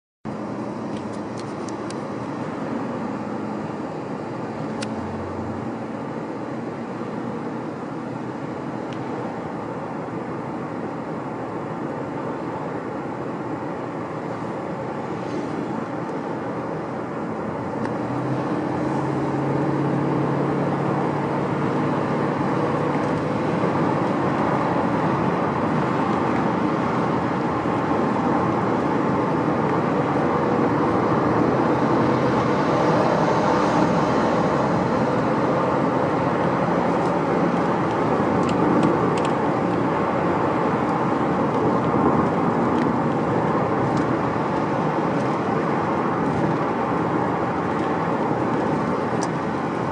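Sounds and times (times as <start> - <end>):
car engine running: 0.3 - 49.9.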